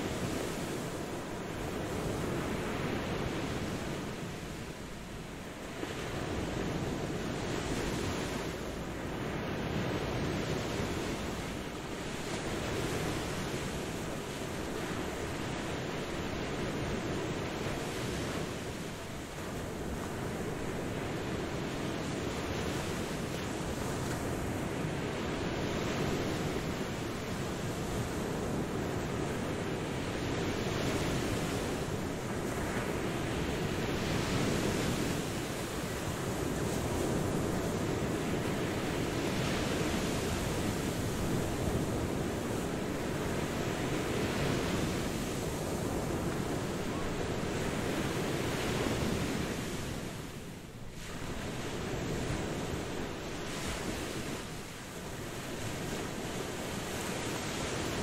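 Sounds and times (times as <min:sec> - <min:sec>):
ocean surf rushing: 0:00.0 - 0:58.0.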